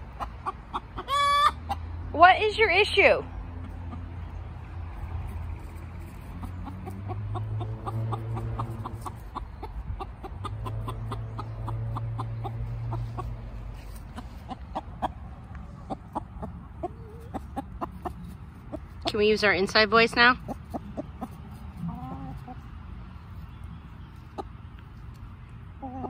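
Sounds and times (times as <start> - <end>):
hen clucking: 0.0 - 26.0.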